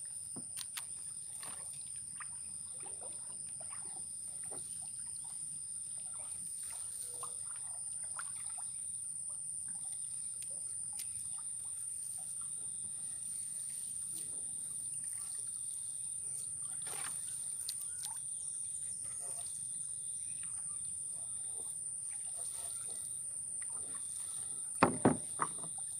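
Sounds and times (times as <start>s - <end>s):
paddle dipping: 0.2s - 25.9s
water trickling and splashing: 0.3s - 25.9s.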